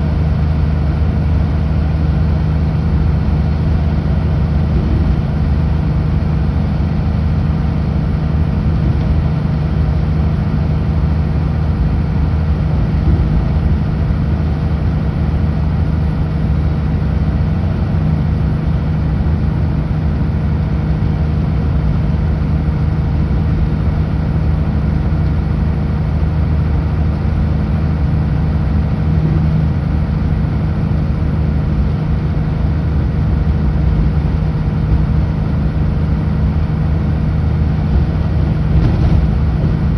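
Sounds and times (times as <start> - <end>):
road noise: 0.0 - 39.9
truck diesel engine droning: 0.0 - 39.9.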